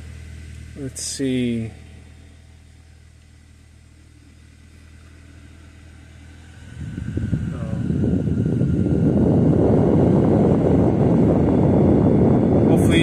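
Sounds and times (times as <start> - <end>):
air rushing from vent: 0.0 - 13.0
blower motor whine: 0.0 - 13.0.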